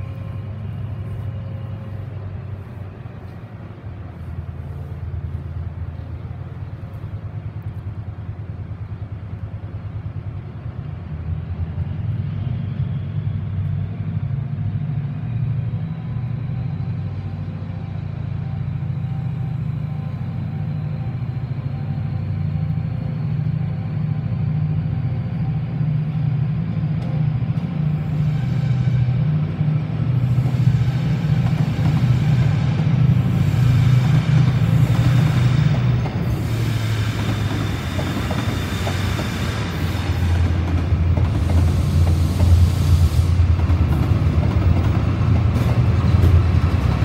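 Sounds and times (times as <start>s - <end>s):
train rumble: 0.0s - 47.0s.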